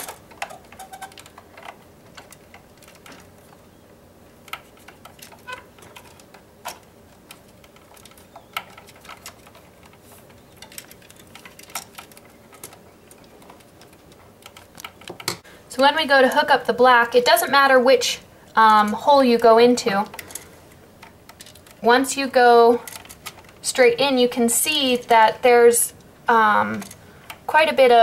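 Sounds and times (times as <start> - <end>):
electrical wires clicking and tapping: 0.0 - 28.0.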